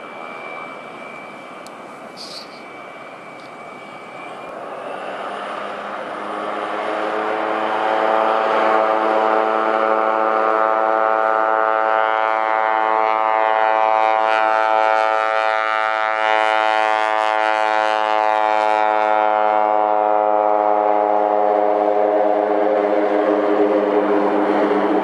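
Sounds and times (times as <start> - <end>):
turboprop engine and propeller drone: 0.0 - 25.0.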